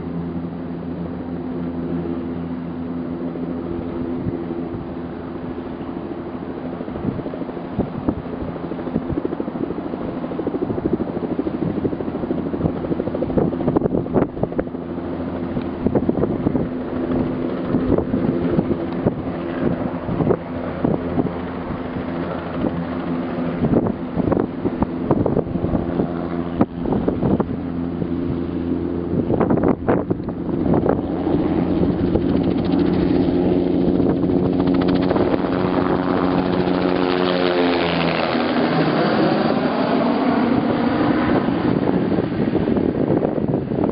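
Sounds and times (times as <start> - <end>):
helicopter rotor and engine: 0.0 - 43.9.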